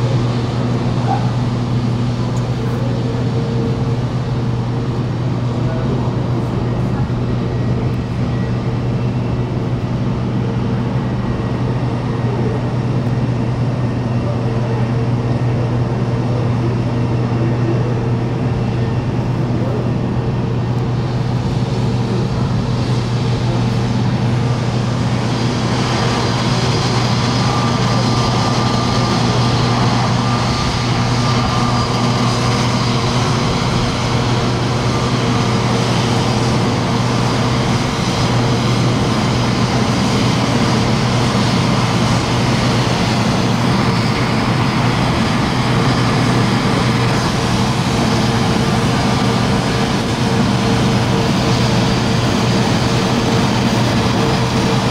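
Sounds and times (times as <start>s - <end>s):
jet engines idling: 0.0s - 54.9s.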